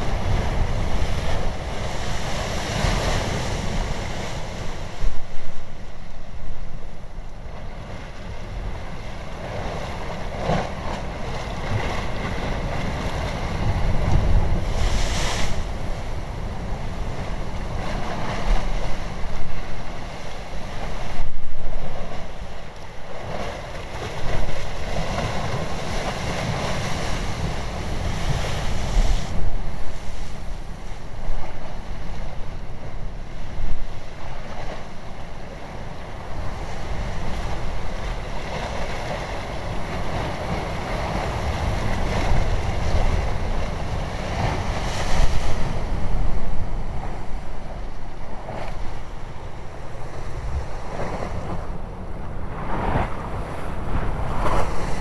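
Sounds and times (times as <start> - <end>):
low rumble of surf: 0.0 - 55.0
waves breaking: 0.0 - 55.0.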